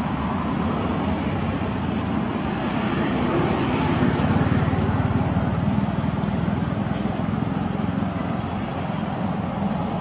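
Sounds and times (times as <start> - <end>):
low engine-like rumble: 0.0 - 10.0.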